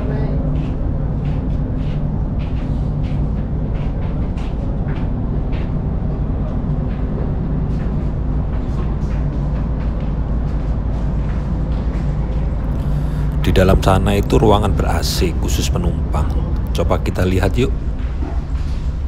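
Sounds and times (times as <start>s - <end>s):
ferry engines droning: 0.0s - 19.0s
footsteps on steel deck: 0.0s - 19.0s.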